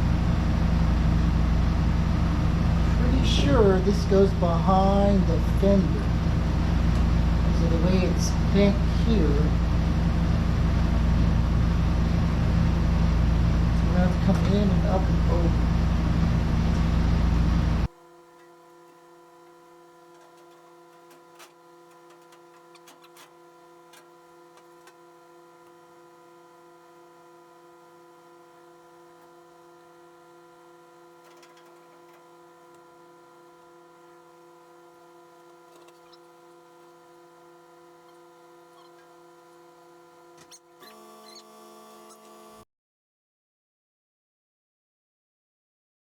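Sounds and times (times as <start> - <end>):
faint steady hum: 0.0 - 42.6.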